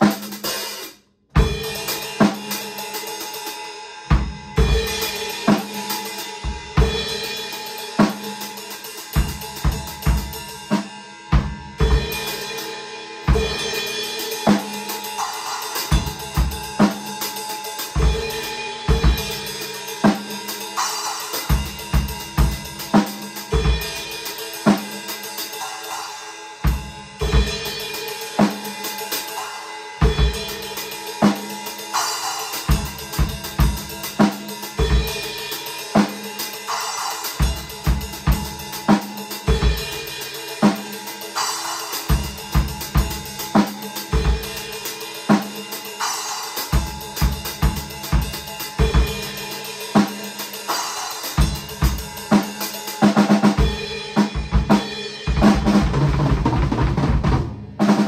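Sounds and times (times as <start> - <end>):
drum kit groove: 0.0 - 58.0.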